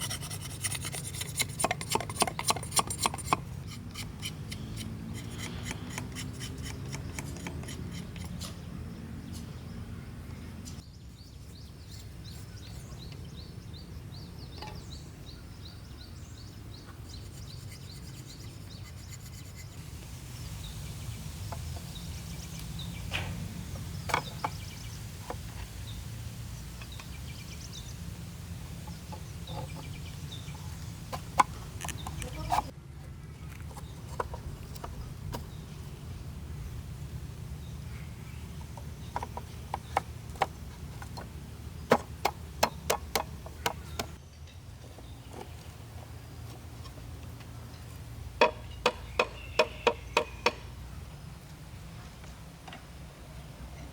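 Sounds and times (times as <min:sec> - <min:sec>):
birds calling: 0:00.0 - 0:32.7, 0:37.4 - 0:45.8, 0:47.6 - 0:51.4.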